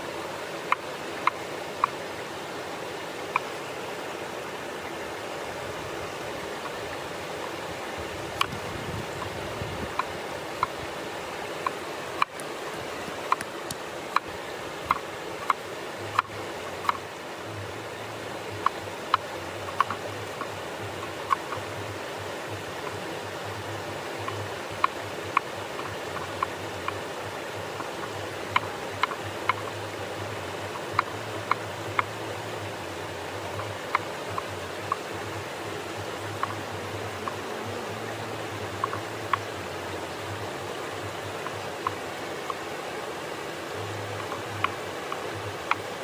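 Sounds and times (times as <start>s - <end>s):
mountain stream rushing: 0.0s - 46.0s.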